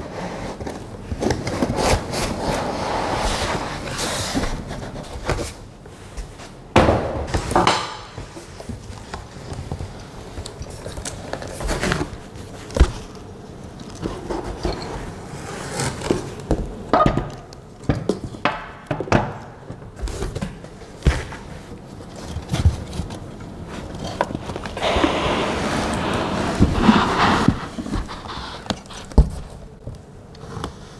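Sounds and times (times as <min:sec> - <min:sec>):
cardboard rustling and scraping: 0:00.0 - 0:06.6, 0:08.2 - 0:16.7, 0:20.0 - 0:30.9.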